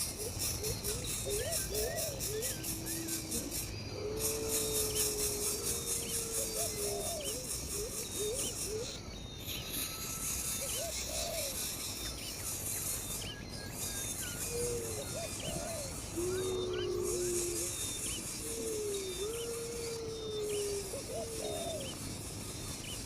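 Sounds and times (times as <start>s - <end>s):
insect chorus drone: 0.0s - 23.0s.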